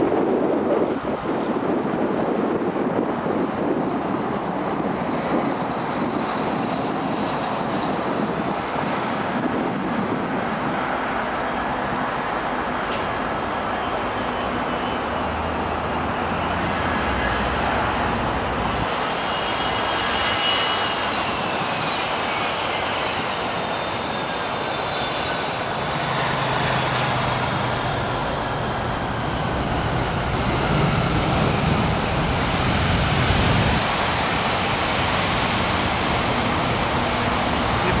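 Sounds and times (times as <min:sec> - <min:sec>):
jet engine roar: 0:00.0 - 0:38.0
jet engine turbine whine: 0:00.0 - 0:38.0.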